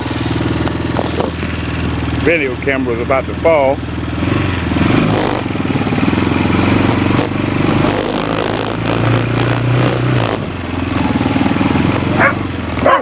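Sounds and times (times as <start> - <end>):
atv engine running: 0.0 - 13.0
tapping rattle in engine: 0.0 - 13.0.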